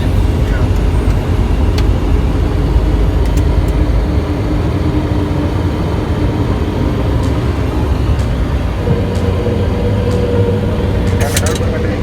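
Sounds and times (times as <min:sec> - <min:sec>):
airliner engines and airflow rumble: 0:00.0 - 0:12.0.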